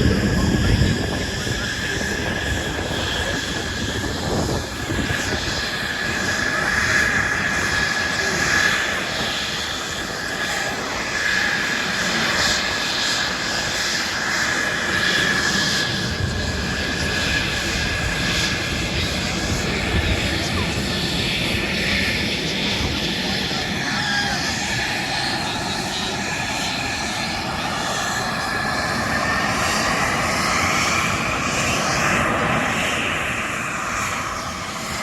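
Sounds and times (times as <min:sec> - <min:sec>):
airplane engine drone: 0:00.0 - 0:35.0.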